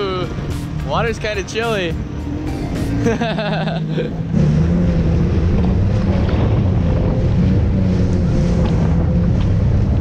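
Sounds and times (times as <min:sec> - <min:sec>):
jet ski engine drone: 0:00.0 - 0:10.0.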